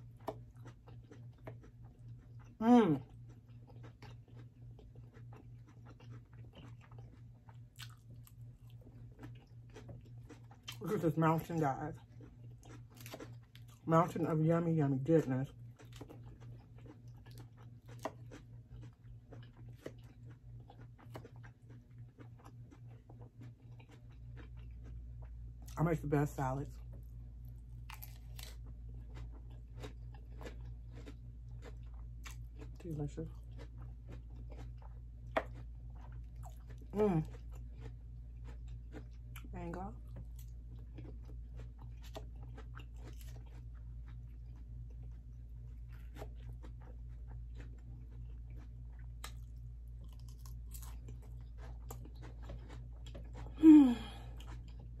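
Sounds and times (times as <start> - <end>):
chewing crisp salad: 0.0 - 55.0
steady low hum: 0.0 - 55.0.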